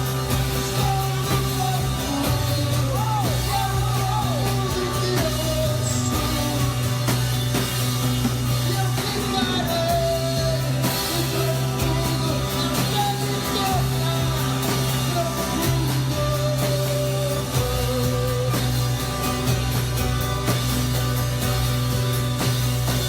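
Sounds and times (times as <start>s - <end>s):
slow worship band music: 0.0s - 23.0s.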